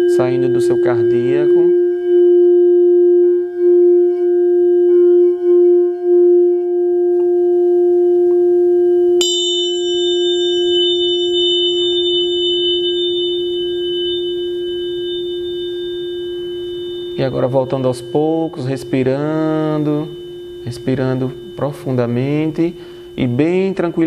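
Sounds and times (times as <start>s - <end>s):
bowl strike with bright ring: 0.0s - 24.0s
crystal singing bowl tone: 0.0s - 24.0s.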